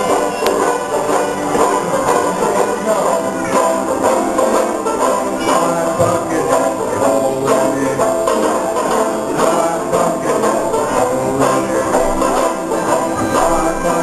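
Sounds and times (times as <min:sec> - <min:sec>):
banjo band playing: 0:00.0 - 0:14.0.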